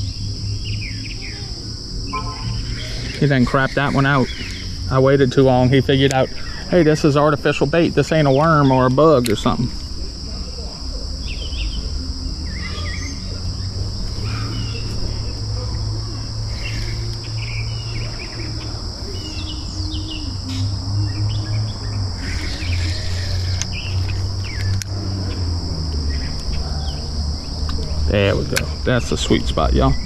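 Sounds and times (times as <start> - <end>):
bird chirps: 0.0 - 7.3, 10.5 - 28.1
high-pitched insect chorus: 0.0 - 30.0.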